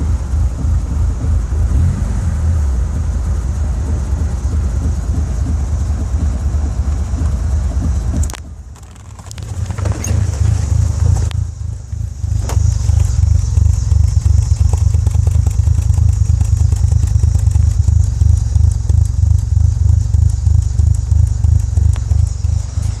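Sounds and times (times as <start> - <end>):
car engine idling roughly: 0.0 - 23.0.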